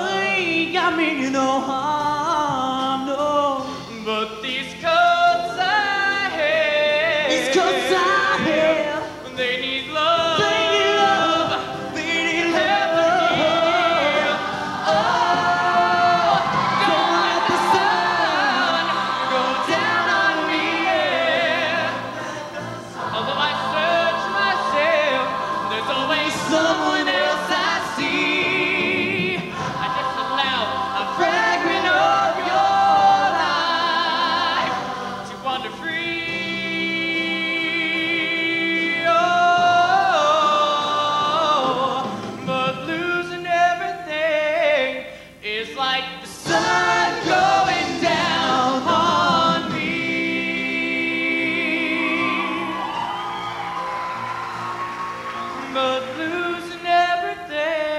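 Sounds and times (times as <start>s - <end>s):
choir singing a ballad: 0.0s - 45.2s, 46.1s - 57.9s
male soloists singing: 0.0s - 53.5s.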